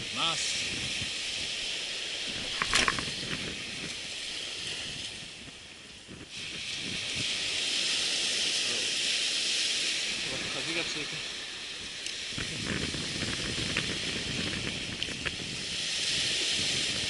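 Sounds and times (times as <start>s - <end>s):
strong wind hissing: 0.0s - 17.0s
waves: 0.0s - 17.0s.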